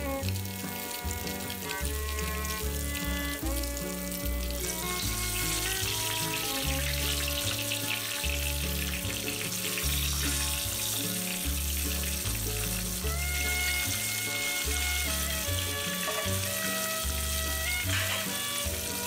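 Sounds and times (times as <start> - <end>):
background music with bass: 0.0 - 19.0
chicken sizzling in hot oil: 0.0 - 19.0.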